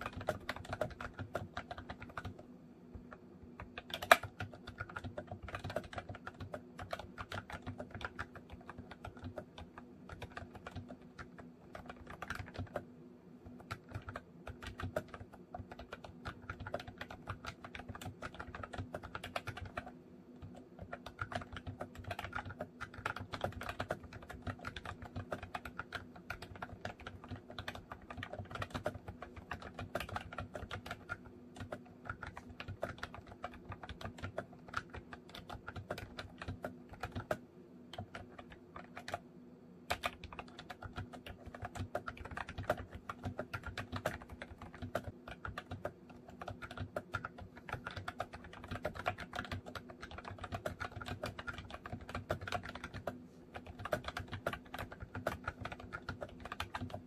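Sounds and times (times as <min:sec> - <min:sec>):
keyboard typing clicks: 0:00.0 - 0:39.2, 0:39.9 - 0:57.0.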